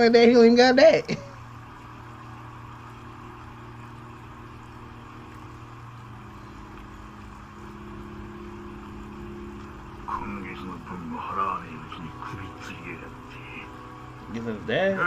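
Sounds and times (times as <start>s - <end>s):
faint hiss: 0.0s - 15.0s
low droning ambient music: 0.0s - 15.0s.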